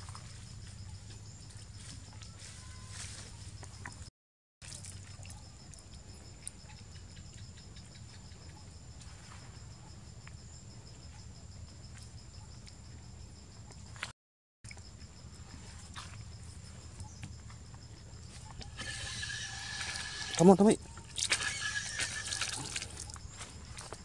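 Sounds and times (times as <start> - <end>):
insects trilling: 0.0 - 14.0, 14.7 - 24.0.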